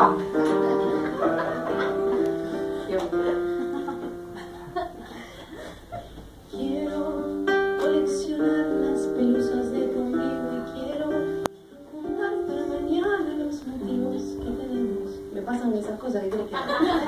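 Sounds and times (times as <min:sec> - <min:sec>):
acoustic guitar chords: 0:00.0 - 0:15.9.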